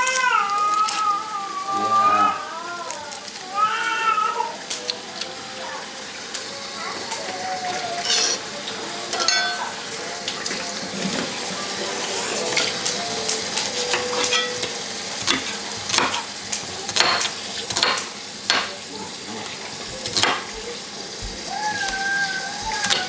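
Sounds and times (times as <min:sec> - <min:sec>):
food sizzling in a pan: 0:00.0 - 0:23.0
utensils and dishes clinking: 0:00.0 - 0:23.0.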